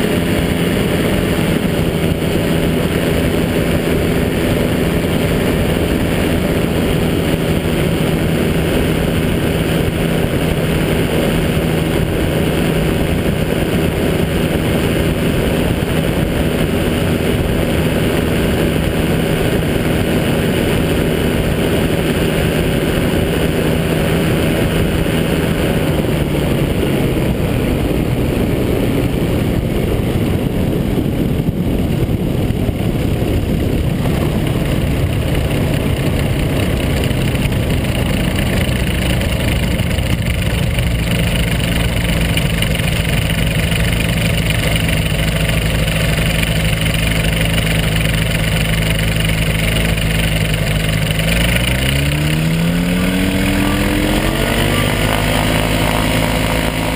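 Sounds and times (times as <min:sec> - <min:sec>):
light aircraft engine running: 0:00.0 - 0:56.9
wind rush on airframe: 0:00.0 - 0:56.9.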